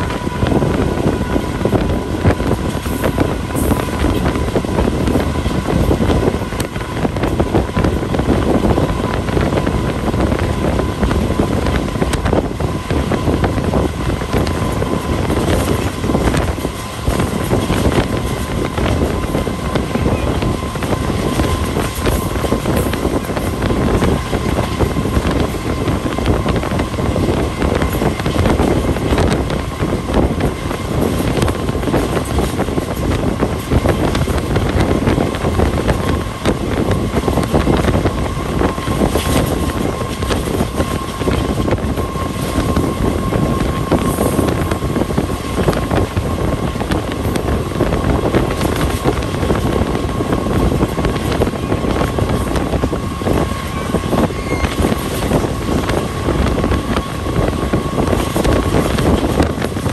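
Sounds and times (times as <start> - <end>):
thin steady whine: 0.0 - 59.9
train rumble: 0.0 - 59.9
wheels clattering on rails: 0.0 - 59.9
wind buffeting microphone: 0.0 - 59.9.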